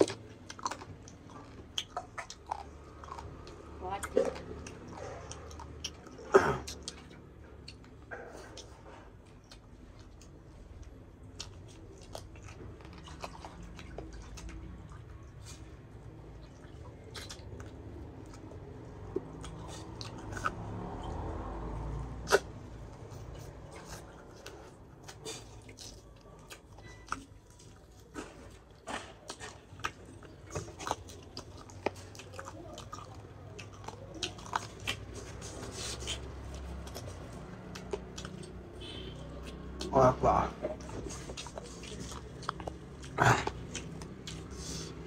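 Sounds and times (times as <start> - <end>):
person chewing: 0.0 - 45.0.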